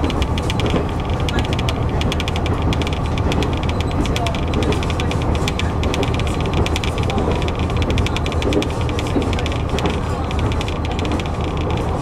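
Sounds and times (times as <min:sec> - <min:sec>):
rattle of sharp clicks: 0:00.0 - 0:12.0
train engine and wheels drone: 0:00.0 - 0:12.0.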